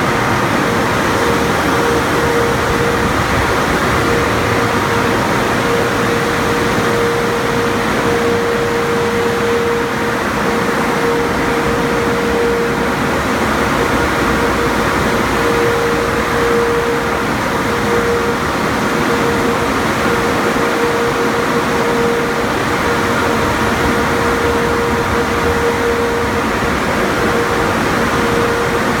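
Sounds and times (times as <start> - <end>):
car wash dryer blowers: 0.0 - 29.0.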